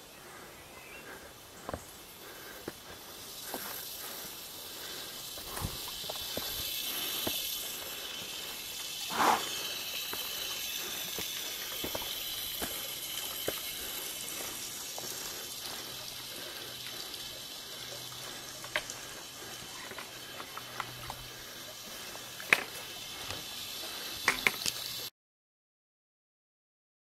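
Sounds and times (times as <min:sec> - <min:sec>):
water running into bucket: 0:03.3 - 0:25.1.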